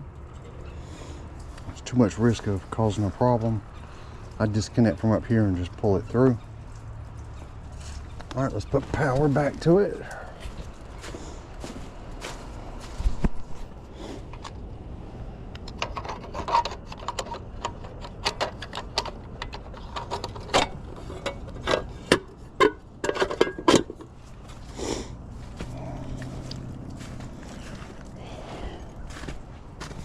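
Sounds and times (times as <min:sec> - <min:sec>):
handling knocks and scraping: 0:00.0 - 0:14.6, 0:15.6 - 0:30.0
low steady hum: 0:00.0 - 0:30.0.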